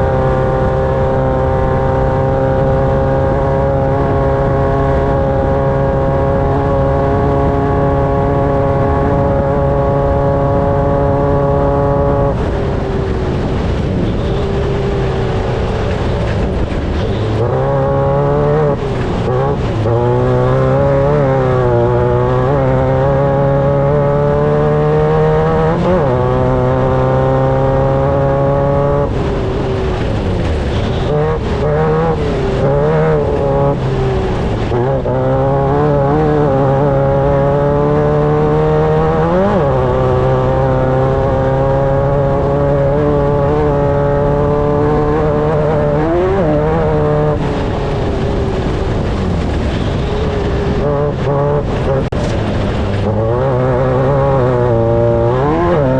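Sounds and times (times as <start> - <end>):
off-road vehicle engine revving: 0.0 - 55.9.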